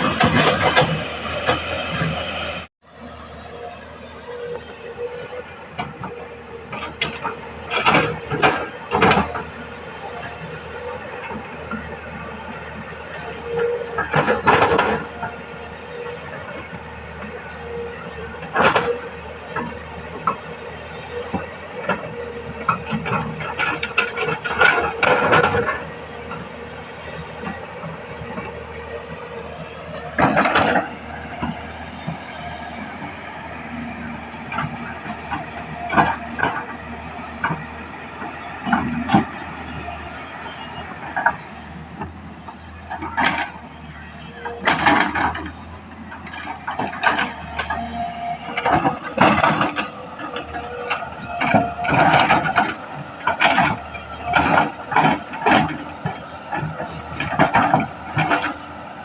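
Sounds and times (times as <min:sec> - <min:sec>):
metallic scraping and clanking: 0:00.0 - 0:02.7, 0:04.1 - 0:59.0
excavator diesel engine running: 0:00.0 - 0:59.0.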